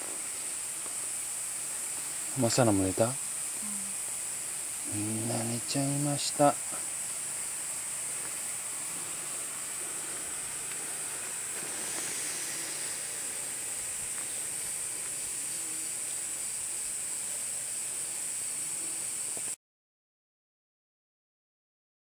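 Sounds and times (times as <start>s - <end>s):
high-pitched night hiss: 0.0s - 19.6s.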